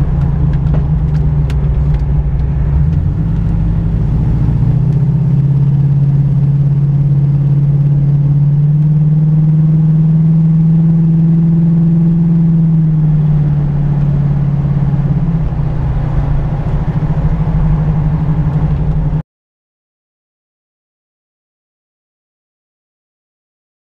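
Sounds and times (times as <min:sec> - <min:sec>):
car engine droning: 0:00.0 - 0:19.2.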